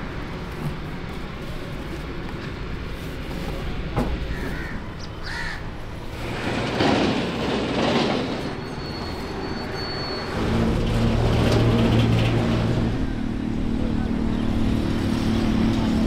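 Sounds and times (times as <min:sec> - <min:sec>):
large vehicle engine running: 0:00.0 - 0:16.0.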